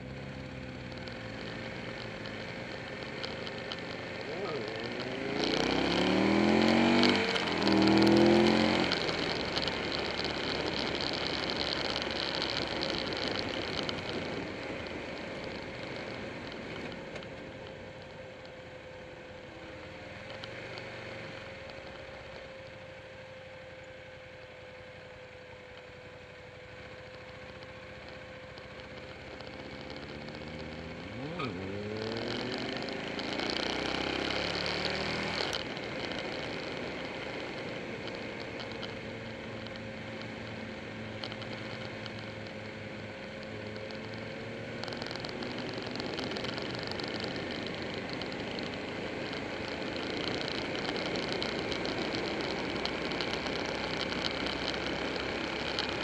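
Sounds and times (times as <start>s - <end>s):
motorcycle engine revving: 0.0s - 23.9s, 25.9s - 56.0s
faint steady whine: 0.0s - 56.0s.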